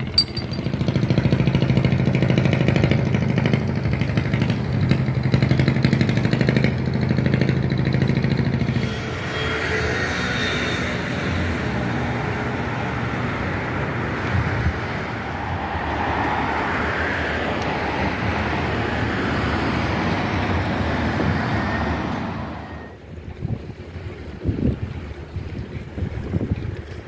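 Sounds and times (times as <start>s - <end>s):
road traffic rushing by: 0.0s - 23.0s.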